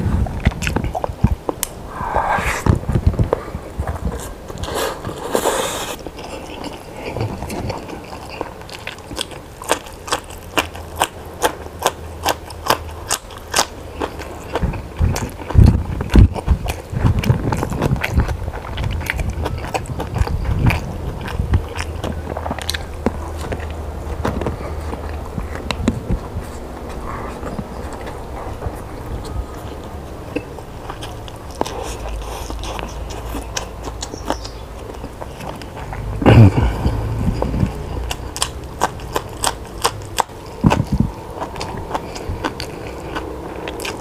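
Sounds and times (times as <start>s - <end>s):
crunchy chewing: 0.2s - 2.6s, 3.3s - 44.0s.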